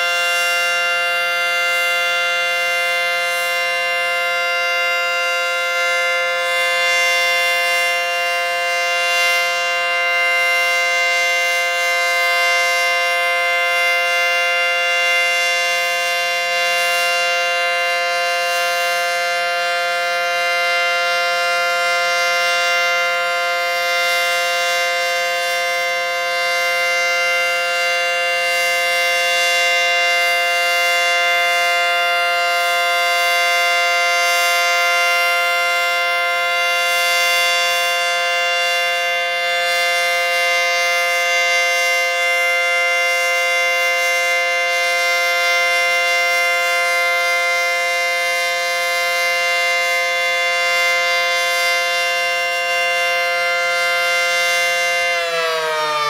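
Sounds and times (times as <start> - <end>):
siren steady tone: 0.0 - 56.0.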